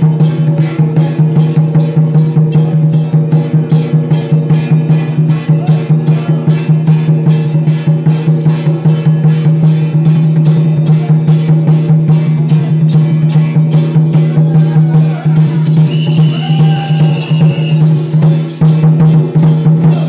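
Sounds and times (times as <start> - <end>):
rapid percussion beats: 0.0 - 20.0.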